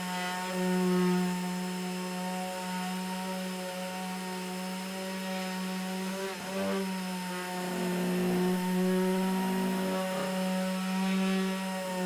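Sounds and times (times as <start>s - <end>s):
orbital sander running: 0.0s - 12.0s.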